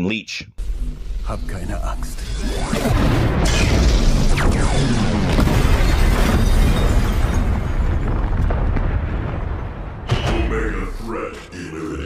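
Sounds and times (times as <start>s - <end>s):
heavy explosions and rumbling: 0.6s - 12.0s.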